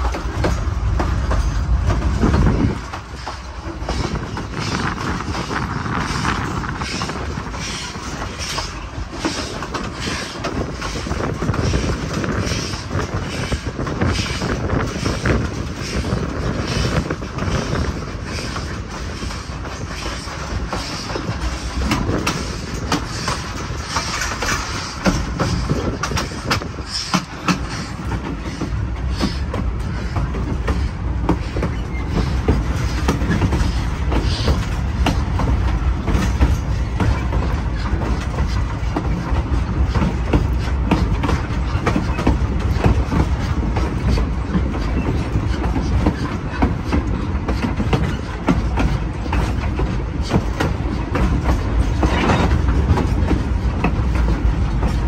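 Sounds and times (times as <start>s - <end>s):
train wheels rumbling: 0.0s - 55.0s
wheels clicking over rail joints: 0.0s - 55.0s
wind noise: 0.0s - 55.0s.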